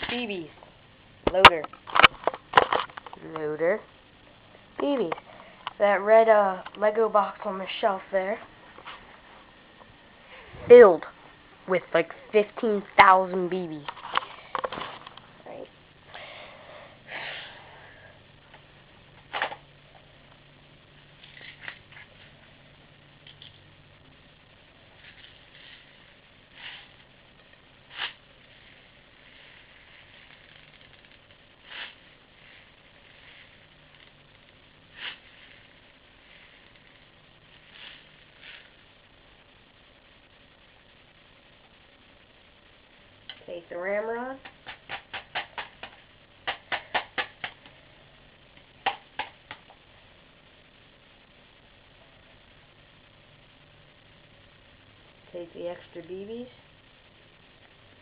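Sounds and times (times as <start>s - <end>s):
faint steady hiss: 0.0s - 58.0s.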